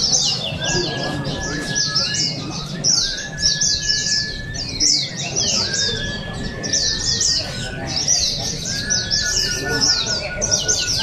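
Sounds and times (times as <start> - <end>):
birds singing high chirps: 0.0 - 11.0
long steady bird whistle: 0.0 - 11.0.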